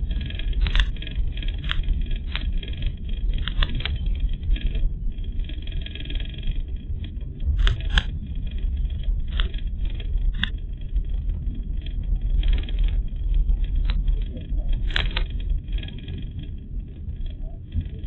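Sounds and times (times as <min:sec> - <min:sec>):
sharp clicks and knocks: 0:00.2 - 0:04.9, 0:07.0 - 0:08.2, 0:09.0 - 0:18.0.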